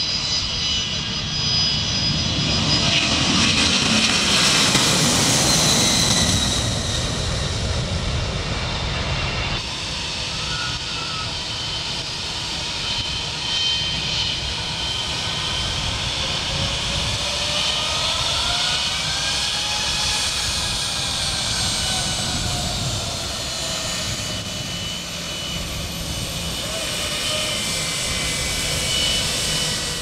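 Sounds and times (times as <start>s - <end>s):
jet engine whine while taxiing: 0.0s - 30.0s
jet engines roaring on takeoff roll: 0.0s - 30.0s.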